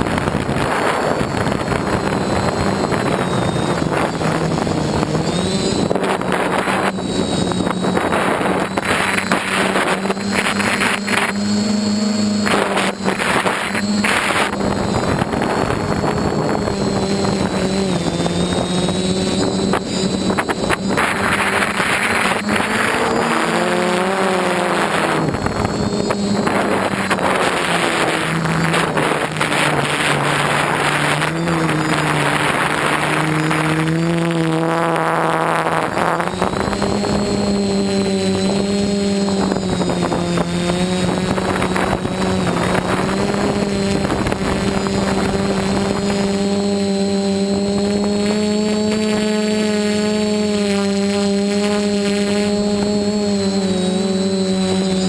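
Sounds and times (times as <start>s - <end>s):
quadcopter propellers whirring: 0.0s - 55.0s.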